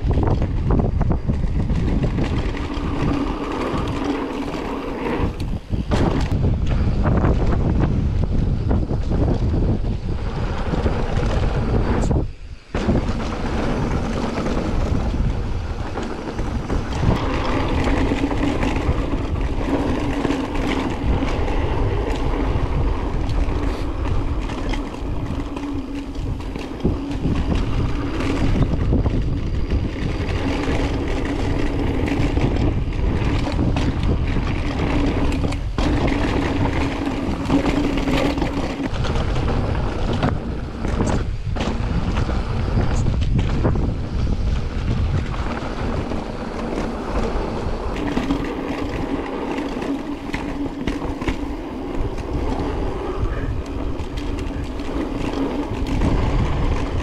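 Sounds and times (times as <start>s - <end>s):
mountain bike rattling on dirt: 0.0s - 57.0s
wind on microphone: 0.0s - 57.0s.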